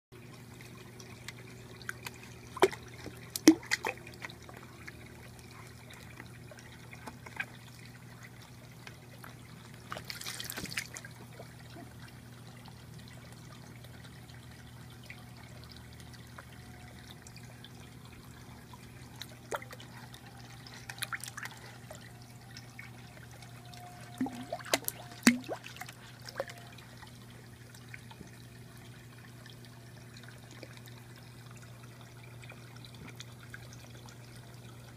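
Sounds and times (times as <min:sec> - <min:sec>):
water plops and small splashes: 0:00.2 - 0:14.4, 0:15.0 - 0:34.8
steady low hum: 0:00.2 - 0:34.9
water trickling and dripping: 0:00.2 - 0:34.9.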